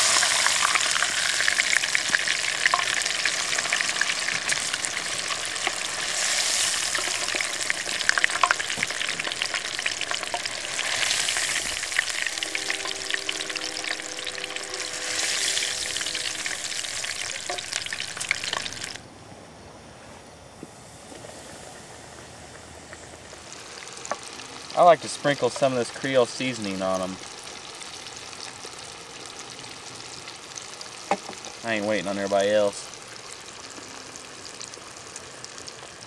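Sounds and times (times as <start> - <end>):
fish deep-frying in oil: 0.0 - 19.0, 22.2 - 36.0.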